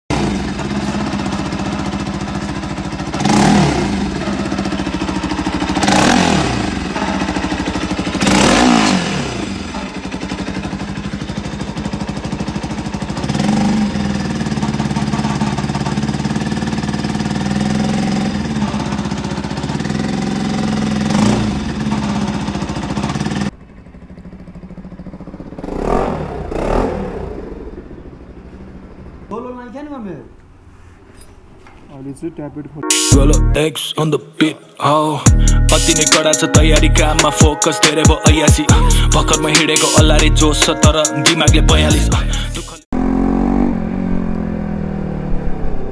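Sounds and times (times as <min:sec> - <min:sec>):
motorcycle engine idling and revving: 0:00.0 - 0:33.5, 0:35.2 - 0:45.9.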